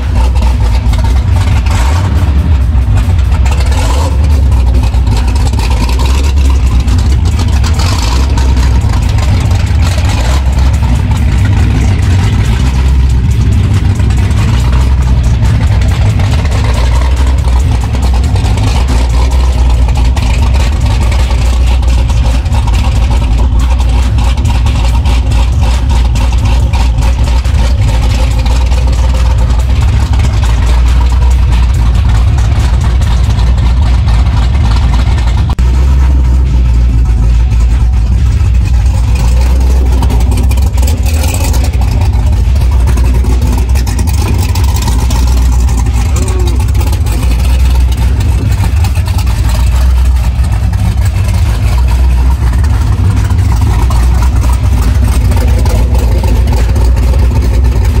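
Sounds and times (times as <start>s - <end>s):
loud engine idling: 0.0s - 58.0s.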